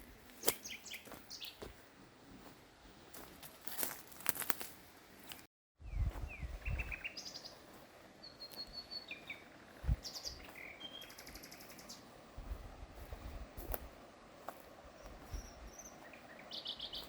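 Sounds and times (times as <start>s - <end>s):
songbirds chirping and trilling: 0.0s - 4.0s, 5.1s - 17.0s.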